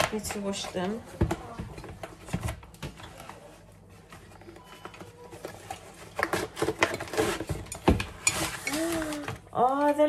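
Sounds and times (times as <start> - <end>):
plates and packaging handled: 0.0 - 10.0.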